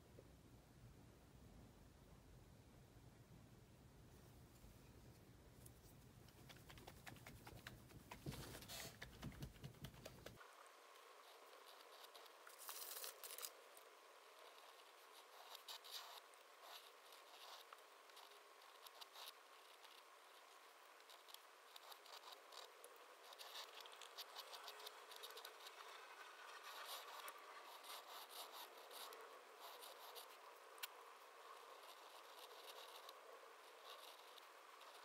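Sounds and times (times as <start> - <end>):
pen nib scratching paper: 6.3 - 35.0.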